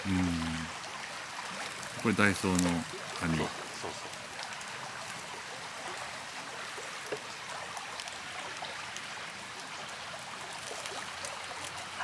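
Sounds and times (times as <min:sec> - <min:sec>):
rushing river: 0:00.0 - 0:12.0.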